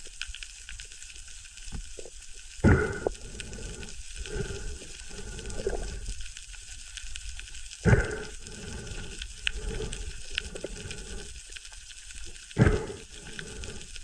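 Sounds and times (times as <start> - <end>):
low rumble of moving water: 0.0 - 14.0.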